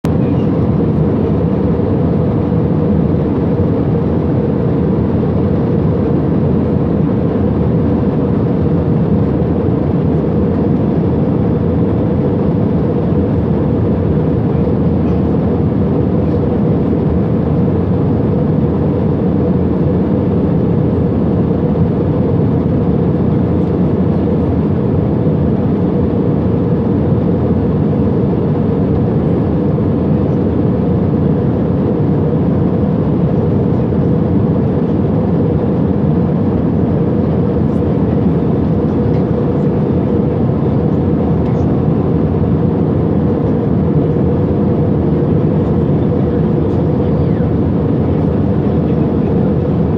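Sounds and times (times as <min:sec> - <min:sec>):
airplane cabin engine drone: 0:00.0 - 0:49.9.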